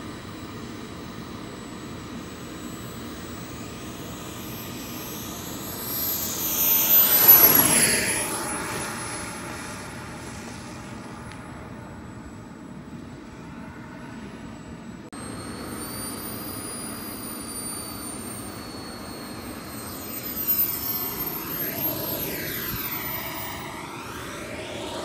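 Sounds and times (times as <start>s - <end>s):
model jet whine flying past: 0.0s - 25.0s.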